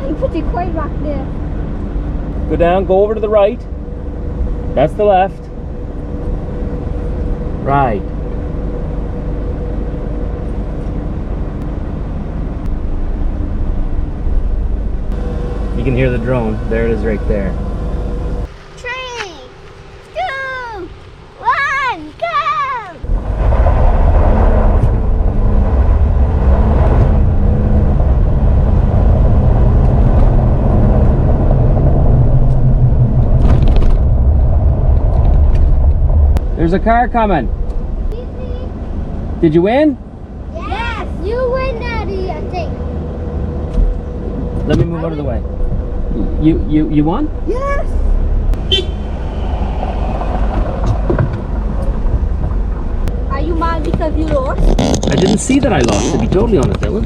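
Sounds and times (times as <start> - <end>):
drone propellers whining: 0.0 - 57.0
pickup truck accelerating: 0.0 - 57.0.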